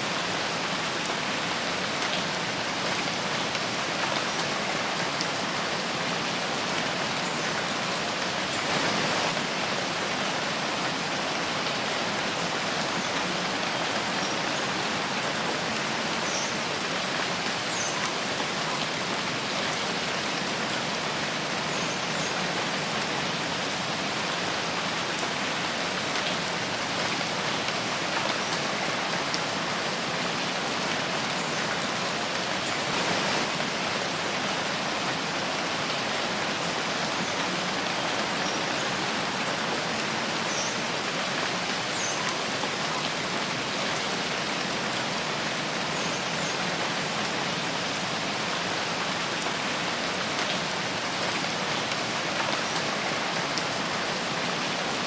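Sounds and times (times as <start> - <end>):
rain falling in a forest: 0.0 - 55.0.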